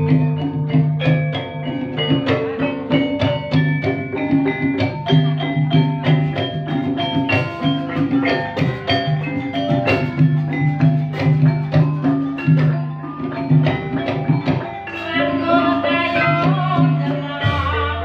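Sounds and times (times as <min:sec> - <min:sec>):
drums: 0:00.0 - 0:18.0
mallet-struck percussion: 0:00.0 - 0:18.0.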